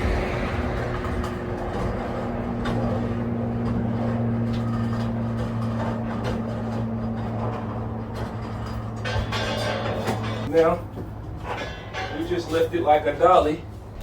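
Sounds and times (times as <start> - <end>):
lifter mechanical hum: 0.0 - 14.0.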